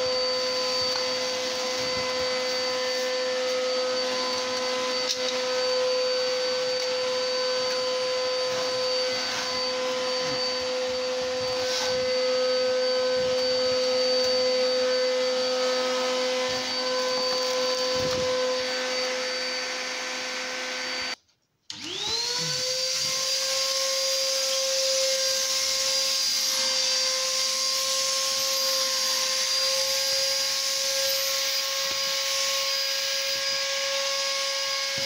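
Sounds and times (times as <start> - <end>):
vacuum motor whining: 0.0 - 35.0.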